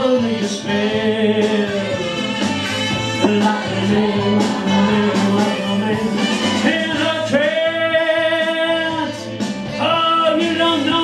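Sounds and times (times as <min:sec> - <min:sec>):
man singing into a microphone: 0:00.0 - 0:02.3, 0:03.2 - 0:11.0
instrumental backing music: 0:00.0 - 0:11.0.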